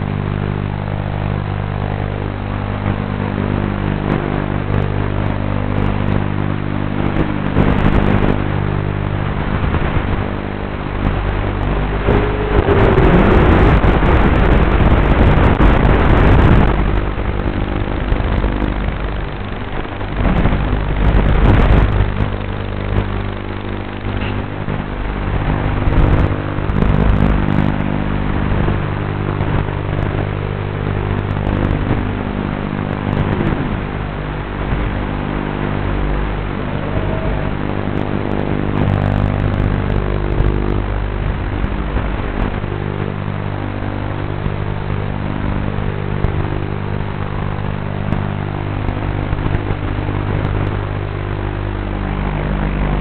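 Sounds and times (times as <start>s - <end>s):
propeller wash and wind: 0.0s - 53.0s
quadcopter motors buzzing: 0.0s - 53.0s.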